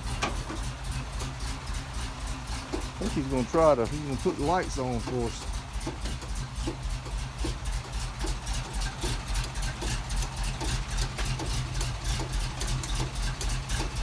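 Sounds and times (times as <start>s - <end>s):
fast even engine ticking: 0.0s - 14.0s
truck engine idling: 0.0s - 14.0s.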